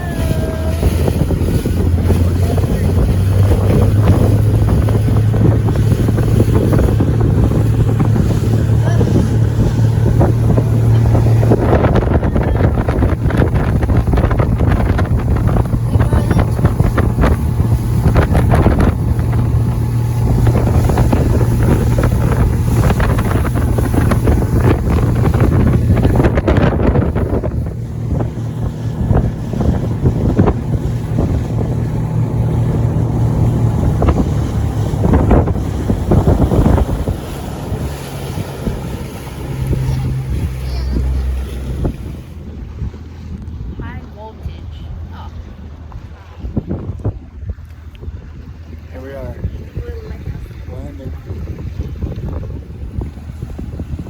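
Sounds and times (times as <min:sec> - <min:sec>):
motorboat engine humming: 0:00.0 - 0:54.0
wind buffeting microphone: 0:00.0 - 0:54.0.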